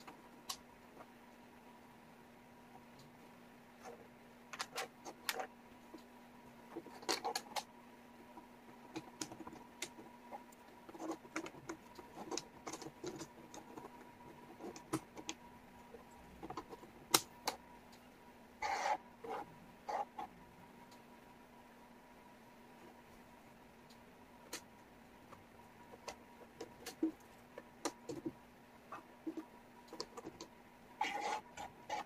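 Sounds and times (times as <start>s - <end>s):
faint electrical hum: 0.0s - 32.0s.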